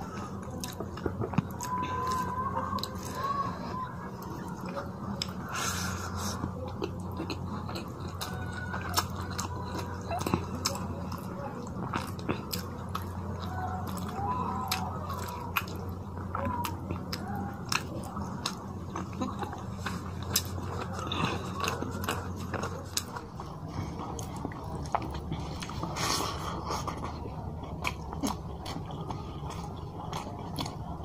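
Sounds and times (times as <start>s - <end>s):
close-up chewing: 0.0s - 31.0s
steady low hum: 0.0s - 31.0s.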